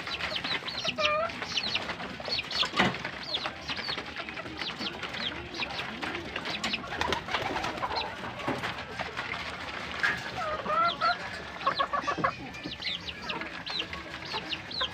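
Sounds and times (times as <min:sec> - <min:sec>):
birds chirping: 0:00.0 - 0:14.9
doves cooing: 0:00.0 - 0:14.9.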